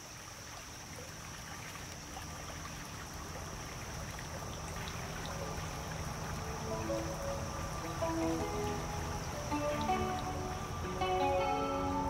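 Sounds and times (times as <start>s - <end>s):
creek water flowing and trickling: 0.0s - 12.0s
steady high-pitched hiss: 0.0s - 12.0s.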